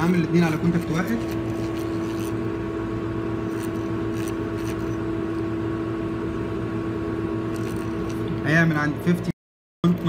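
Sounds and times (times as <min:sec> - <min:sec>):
electrical hum of test equipment: 0:00.0 - 0:10.0.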